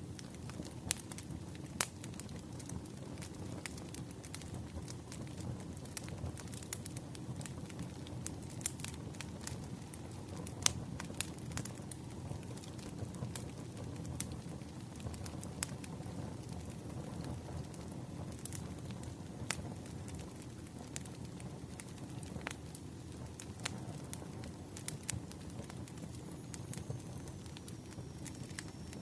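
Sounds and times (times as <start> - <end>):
fire crackling and popping: 0.0 - 29.0
low rumble of fire: 0.0 - 29.0.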